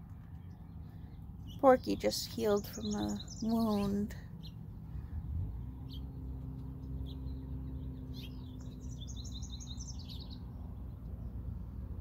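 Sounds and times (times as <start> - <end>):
low outdoor rumble: 0.0 - 12.0
small songbird chirping: 0.1 - 11.8.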